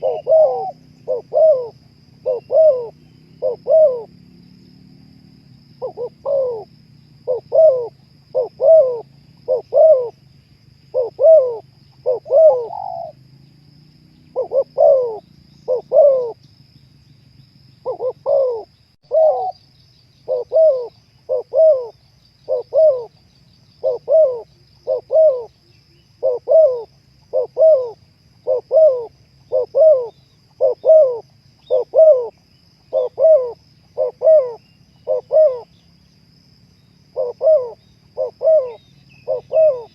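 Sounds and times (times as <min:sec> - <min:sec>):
dove cooing: 0:00.0 - 0:04.2, 0:05.8 - 0:10.2, 0:10.9 - 0:13.2, 0:14.2 - 0:16.4, 0:17.8 - 0:19.6, 0:20.2 - 0:23.2, 0:23.8 - 0:25.6, 0:26.2 - 0:35.9, 0:37.1 - 0:39.9.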